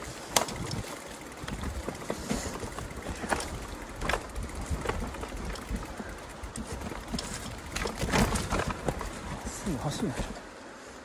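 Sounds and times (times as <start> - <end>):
bike tyres rumbling on rocks: 0.0 - 10.4.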